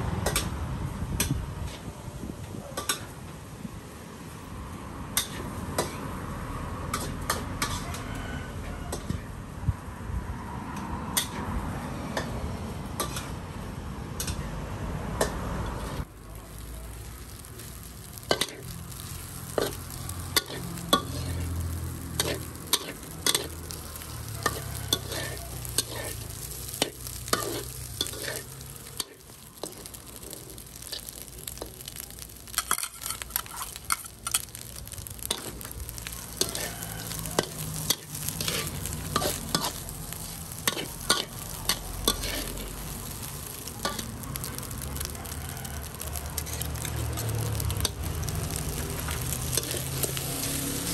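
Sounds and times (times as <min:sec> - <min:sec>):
rice sizzling: 0:00.0 - 0:09.2, 0:10.4 - 0:50.9
metal spatula scraping wok: 0:05.1 - 0:09.2, 0:11.1 - 0:14.5, 0:17.0 - 0:50.9.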